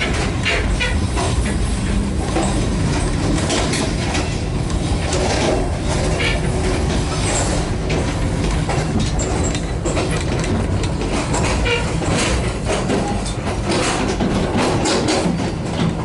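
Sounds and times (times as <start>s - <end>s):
train rumble inside carriage: 0.0s - 16.0s
wheels clattering over rail joints: 0.0s - 16.0s.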